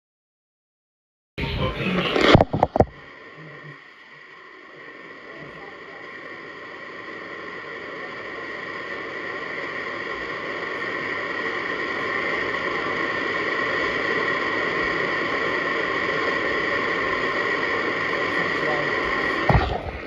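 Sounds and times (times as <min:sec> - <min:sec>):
static hiss: 0:01.4 - 0:20.0.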